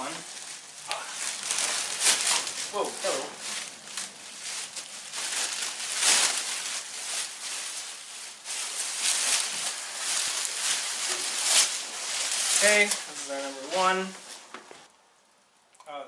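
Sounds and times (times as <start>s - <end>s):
bubble-wrap bag crinkling: 0.0s - 14.9s.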